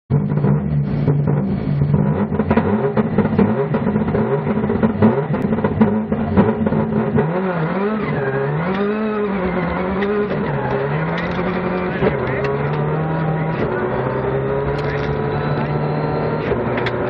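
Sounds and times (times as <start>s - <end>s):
rally car engine revving: 0.1s - 17.0s.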